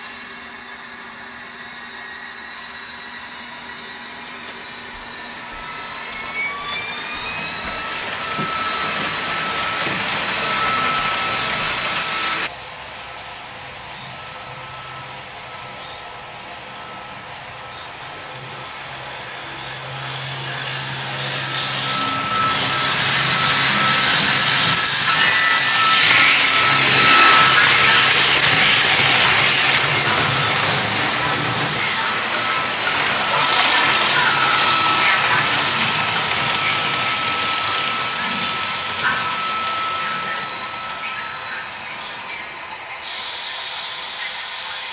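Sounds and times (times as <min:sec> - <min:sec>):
thin steady whine: 0:00.0 - 0:44.9
model train rolling past: 0:01.8 - 0:44.8.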